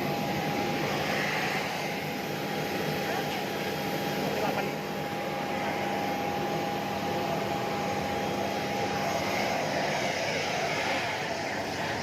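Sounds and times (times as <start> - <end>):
broad rushing noise: 0.0 - 12.0
jet turbine whine: 0.0 - 12.0.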